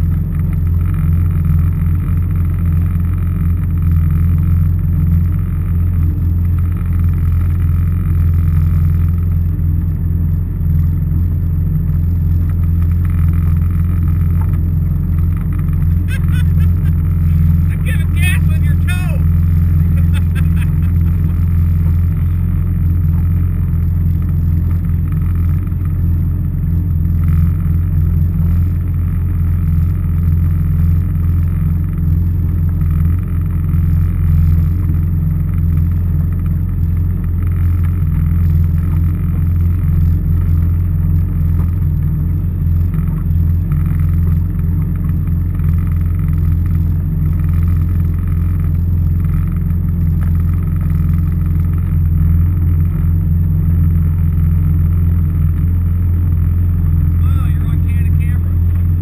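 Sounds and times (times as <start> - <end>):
watercraft engine droning: 0.0 - 59.0.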